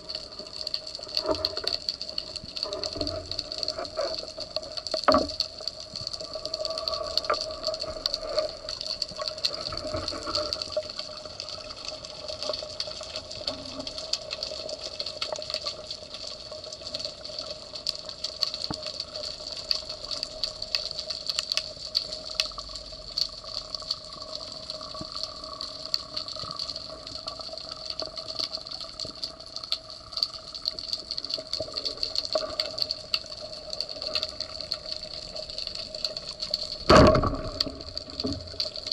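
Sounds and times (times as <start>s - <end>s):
underwater crackle of clicks: 0.0s - 38.9s.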